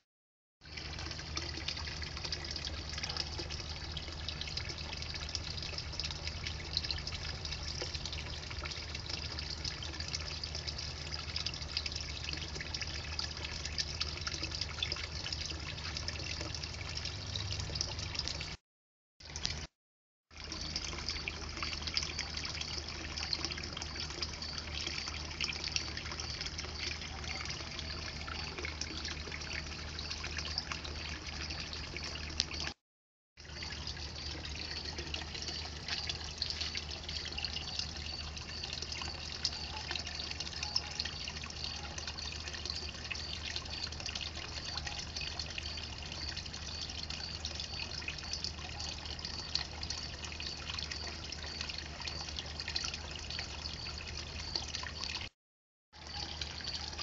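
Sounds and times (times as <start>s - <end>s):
water trickling: 0.6s - 18.6s, 19.2s - 19.7s, 20.3s - 32.8s, 33.4s - 55.4s, 56.0s - 57.0s.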